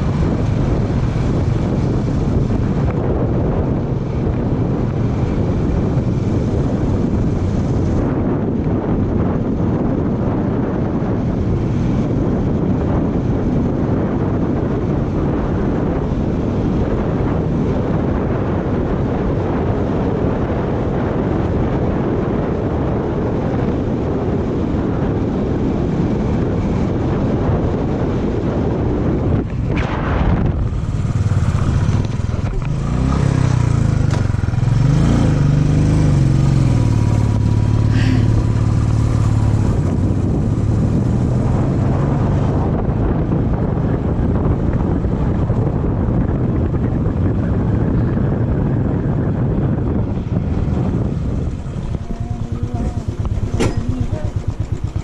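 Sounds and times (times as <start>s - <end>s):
motorcycle engine: 0.0s - 55.0s
wind rush: 0.0s - 55.0s.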